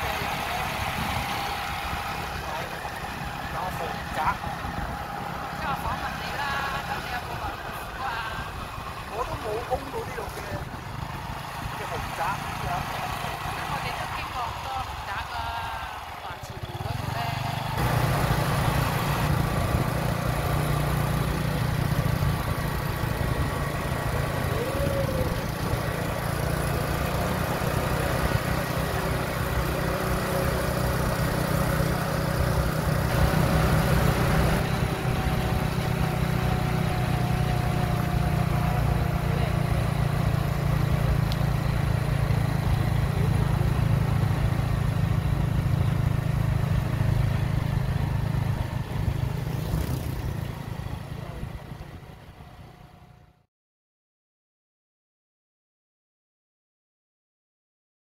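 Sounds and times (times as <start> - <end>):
motorbike engine running: 0.0 - 53.4
road and wind noise: 0.0 - 53.4.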